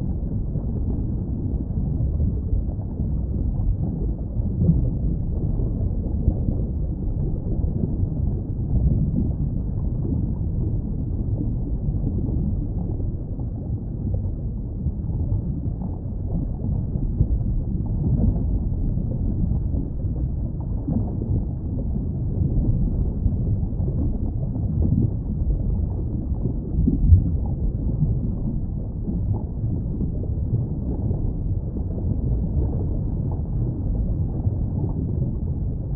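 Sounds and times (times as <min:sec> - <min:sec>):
underwater rumble of water: 0:00.0 - 0:35.9.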